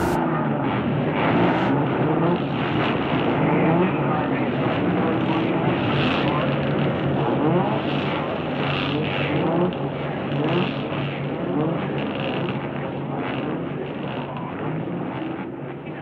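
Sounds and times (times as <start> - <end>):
motor engine revving: 0.0 - 15.4.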